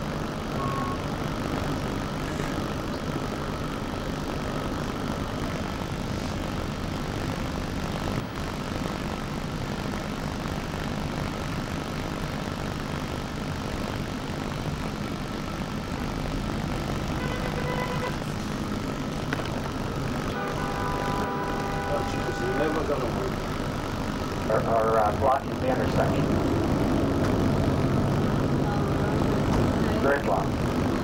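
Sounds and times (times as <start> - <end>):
bus engine drone: 0.0 - 31.0
road noise: 0.0 - 31.0.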